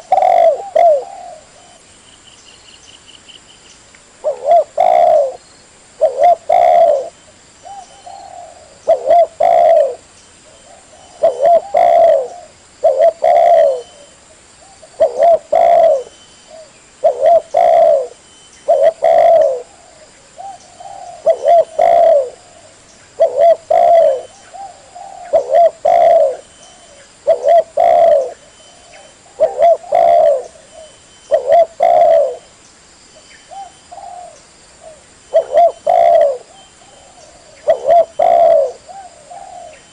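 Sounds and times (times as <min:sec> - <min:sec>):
dove cooing: 0:00.0 - 0:01.8, 0:04.2 - 0:05.4, 0:06.0 - 0:32.5, 0:33.5 - 0:39.9.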